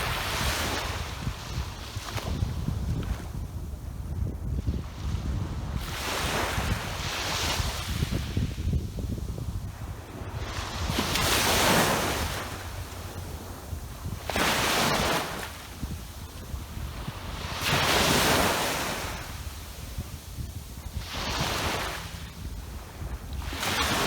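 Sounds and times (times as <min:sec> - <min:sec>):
waves breaking on a beach: 0:00.0 - 0:24.0
wind noise on microphone: 0:00.0 - 0:24.0.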